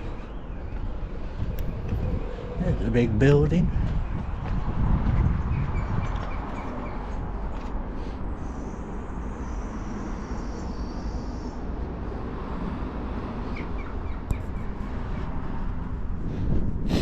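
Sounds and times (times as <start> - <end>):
traffic rumble: 0.0 - 17.0
wind on the microphone: 0.0 - 17.0.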